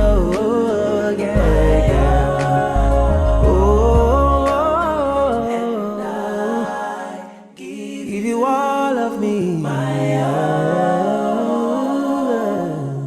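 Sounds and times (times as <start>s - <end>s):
group singing a cappella: 0.0s - 13.0s.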